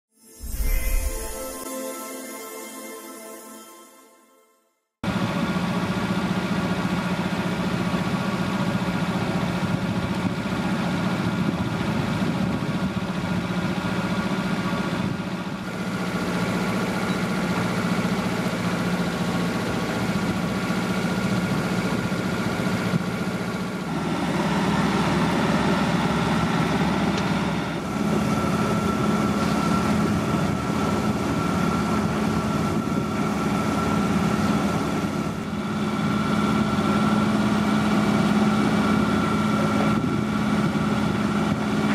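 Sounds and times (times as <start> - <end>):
wind: 5.0 - 41.9.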